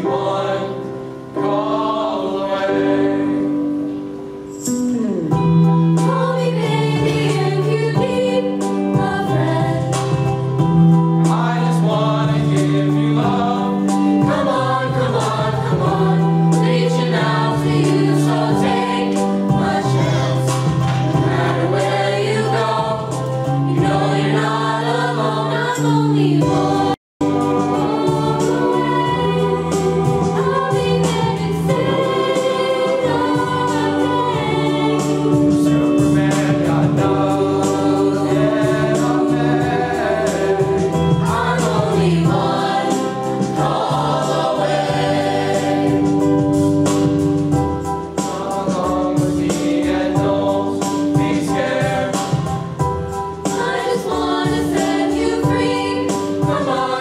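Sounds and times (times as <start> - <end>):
mixed chorus singing: 0.0 - 4.0, 5.6 - 57.0.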